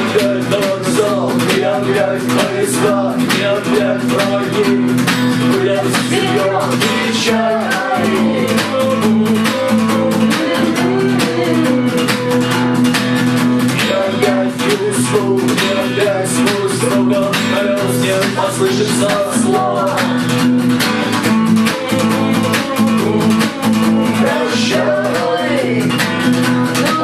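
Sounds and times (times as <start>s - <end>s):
fast drum beat: 0.0s - 27.0s
rock guitars: 0.0s - 27.0s.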